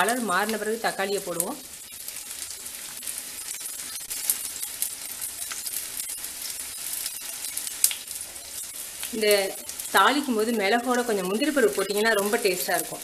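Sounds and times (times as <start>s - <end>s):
onions sizzling in hot oil: 0.0s - 13.0s
metal spoon stirring: 1.8s - 12.7s.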